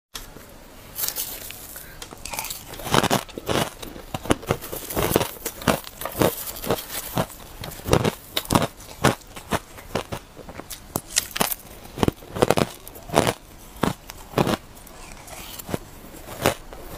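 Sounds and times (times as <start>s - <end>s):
ice crunching when chewed: 1.0s - 16.9s.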